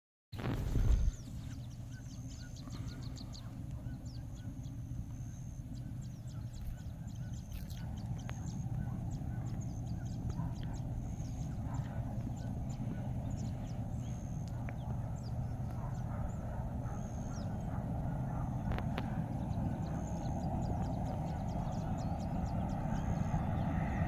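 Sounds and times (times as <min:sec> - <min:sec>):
birds calling with whistles: 0:00.4 - 0:24.0
steady low rumble: 0:00.4 - 0:24.0.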